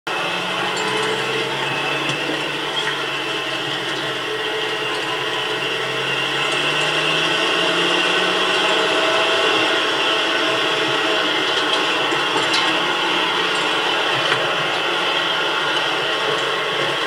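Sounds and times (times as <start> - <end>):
car engine running: 0.1 - 17.0.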